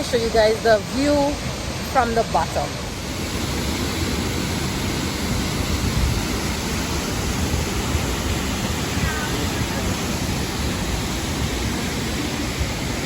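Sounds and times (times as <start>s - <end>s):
waterfall pouring: 1.8s - 13.0s.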